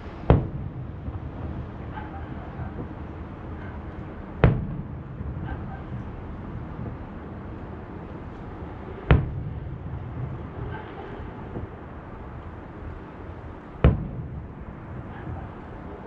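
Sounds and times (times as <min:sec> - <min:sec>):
distant firework shells bursting: 0:00.1 - 0:16.0.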